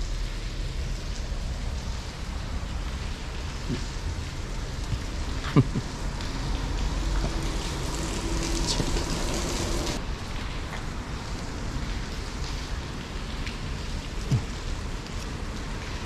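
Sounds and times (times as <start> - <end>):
rain: 0.0 - 16.0.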